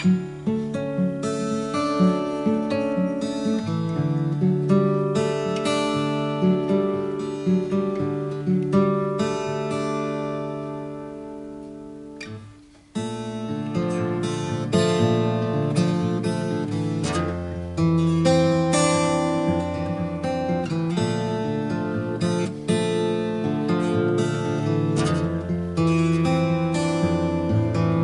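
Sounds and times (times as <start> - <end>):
fingerstyle acoustic guitar: 0.0 - 28.0.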